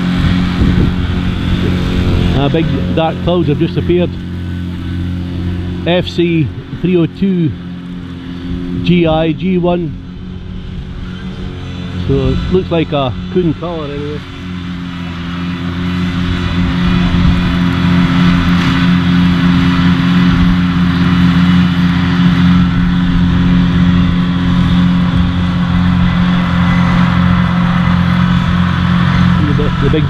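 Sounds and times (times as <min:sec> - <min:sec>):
disc mowers whirring: 0:00.0 - 0:30.0
tractor diesel engine under load: 0:00.0 - 0:30.0.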